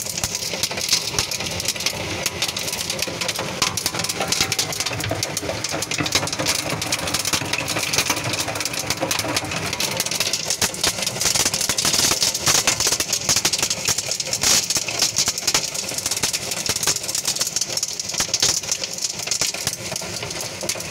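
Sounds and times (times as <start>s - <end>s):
hail and heavy rain pelting: 0.0s - 20.9s.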